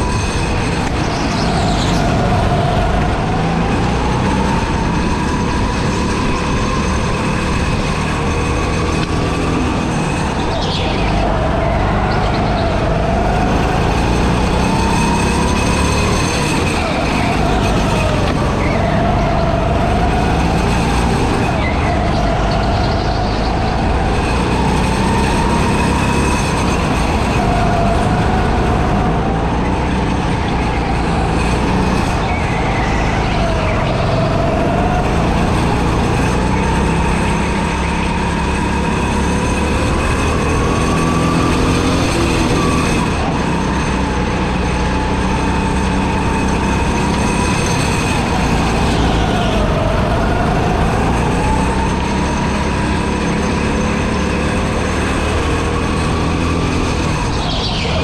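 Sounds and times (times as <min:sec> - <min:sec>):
go-kart motor revving: 0:00.0 - 0:58.0.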